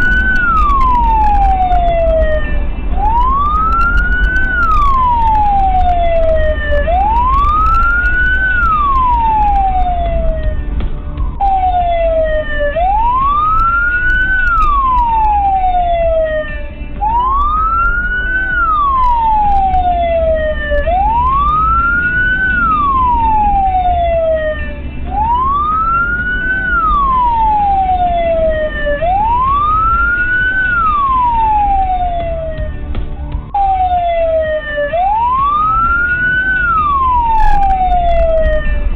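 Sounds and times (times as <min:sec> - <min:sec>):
car driving rumble: 0:00.0 - 0:38.9
emergency siren wailing: 0:00.0 - 0:38.9.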